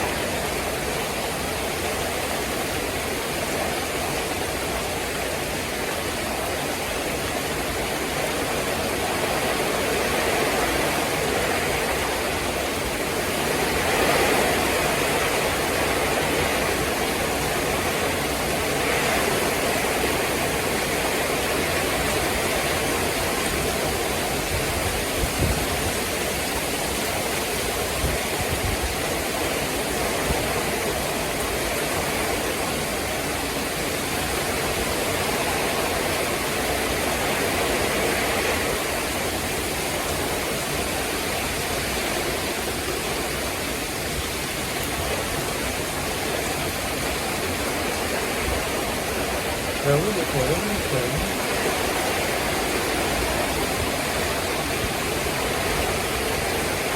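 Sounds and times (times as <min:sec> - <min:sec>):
heavy rain on roof tiles: 0:00.0 - 0:56.9.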